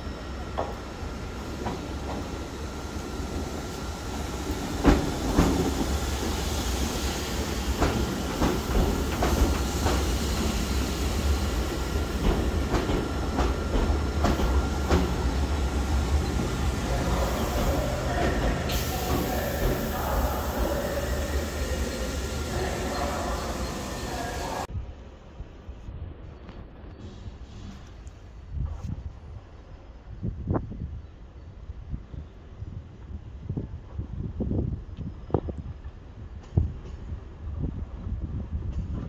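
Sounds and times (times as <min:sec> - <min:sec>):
train rumbling along platform: 0:00.0 - 0:39.0.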